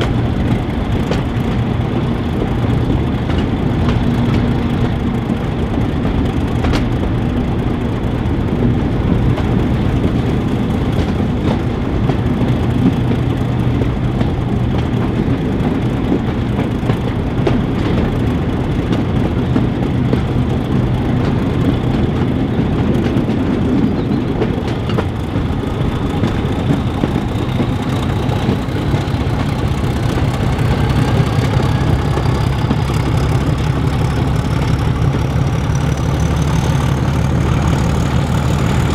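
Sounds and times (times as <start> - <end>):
diesel locomotive engine running: 0.0 - 38.9
train wheels on rails: 0.0 - 38.9.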